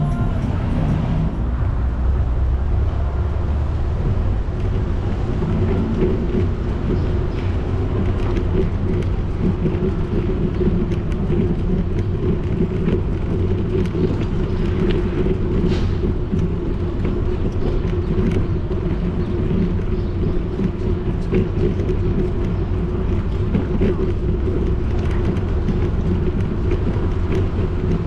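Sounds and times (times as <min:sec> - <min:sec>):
bicycle tyres rumbling on cobblestones: 0:00.0 - 0:28.0
small rattles and clicks: 0:03.8 - 0:28.0.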